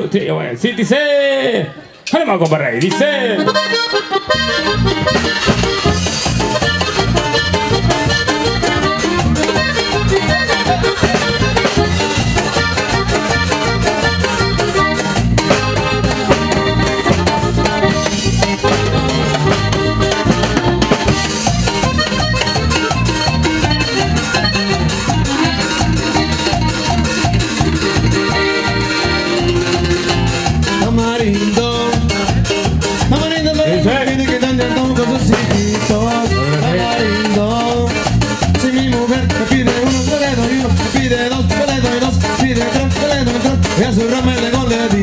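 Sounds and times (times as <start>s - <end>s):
button accordion melody: 2.8s - 45.0s
drum kit: 2.8s - 45.0s
twelve-string guitar: 2.8s - 45.0s
electric bass: 2.9s - 45.0s.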